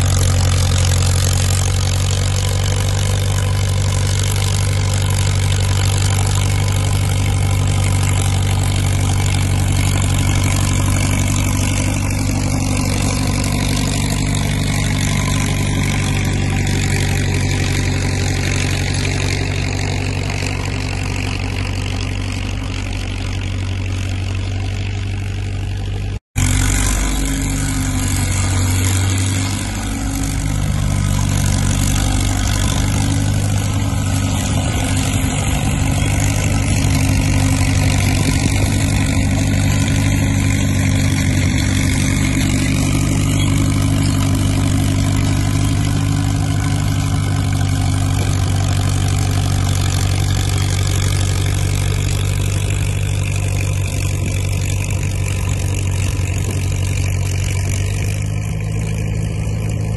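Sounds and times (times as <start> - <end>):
dozer engine running under load: 0.0 - 59.9.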